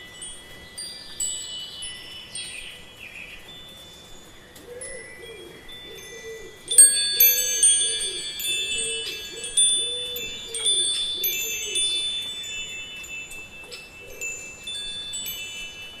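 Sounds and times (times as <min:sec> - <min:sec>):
metal wind chimes ringing: 0:00.0 - 0:16.0.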